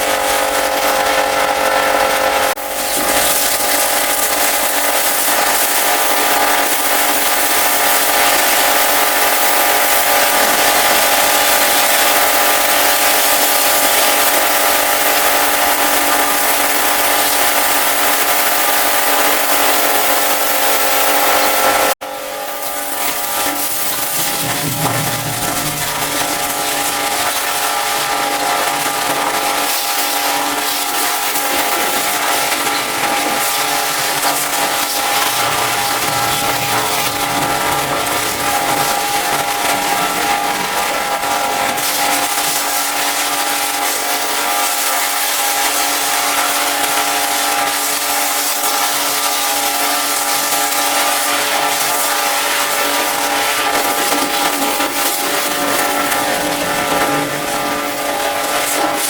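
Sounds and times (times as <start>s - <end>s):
pressure washer motor whine: 0.0s - 59.0s
pressure washer jet hissing: 2.3s - 59.0s.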